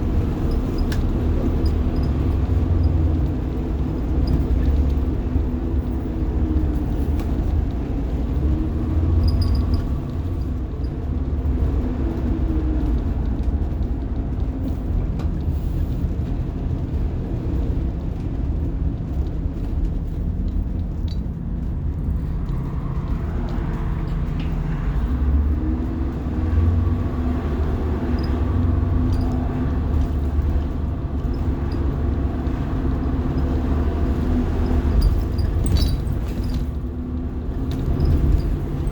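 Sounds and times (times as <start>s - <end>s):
bus diesel engine rumble: 0.0s - 38.9s.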